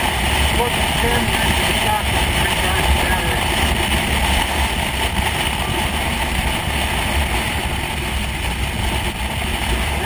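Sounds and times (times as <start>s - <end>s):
motorcycle engine rumble: 0.0s - 10.0s
road noise: 0.0s - 10.0s.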